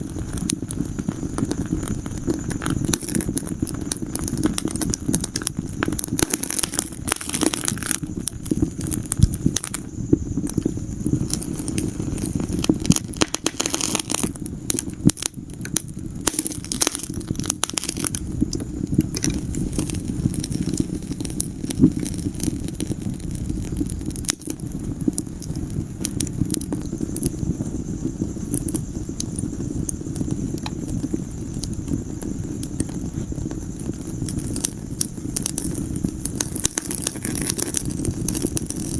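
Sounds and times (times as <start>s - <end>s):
fire flames rumbling: 0.0s - 38.9s
fire popping and crackling: 0.0s - 38.9s.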